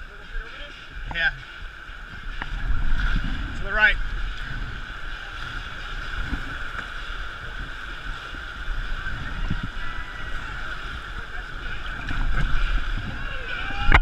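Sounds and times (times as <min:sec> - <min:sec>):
river rushing through rapids: 0:00.0 - 0:14.0
wind rumbling on microphone: 0:00.0 - 0:14.0.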